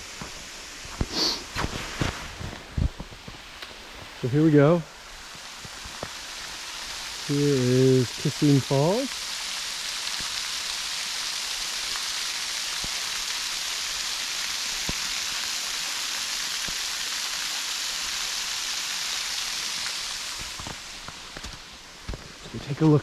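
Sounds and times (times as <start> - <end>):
small waterfall splashing: 0.0 - 23.0.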